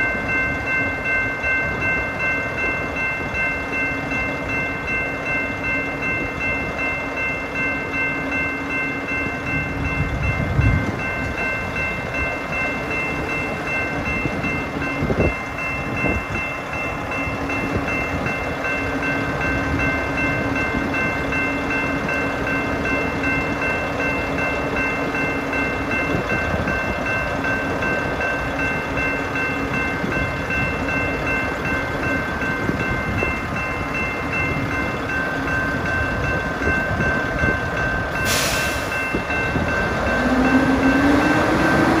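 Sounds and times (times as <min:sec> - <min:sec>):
crossing warning bell: 0:00.0 - 0:42.0
rail wheel noise: 0:00.0 - 0:42.0.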